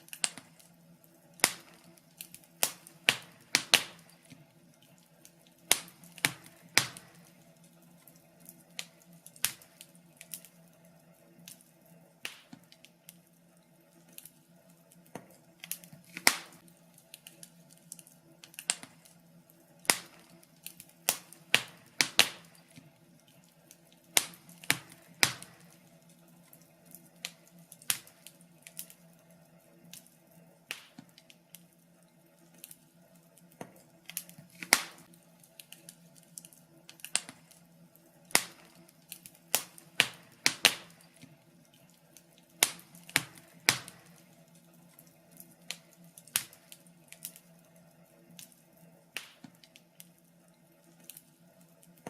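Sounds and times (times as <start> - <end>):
faint steady hum: 0.0 - 52.0
wood fire crackling: 0.0 - 52.0.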